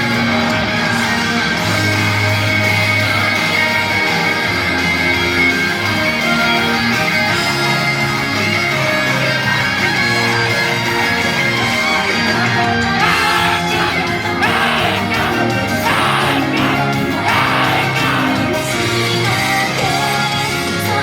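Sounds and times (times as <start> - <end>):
pop-rock instrumental with guitar: 0.0 - 21.0.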